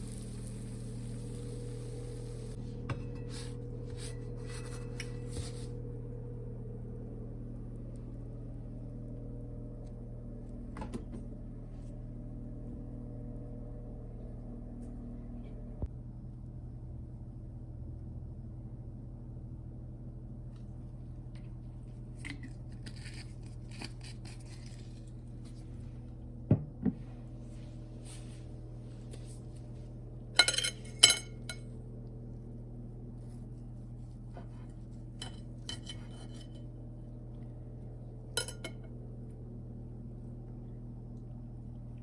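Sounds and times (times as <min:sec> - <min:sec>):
kitchen appliance hum: 0:00.0 - 0:42.0.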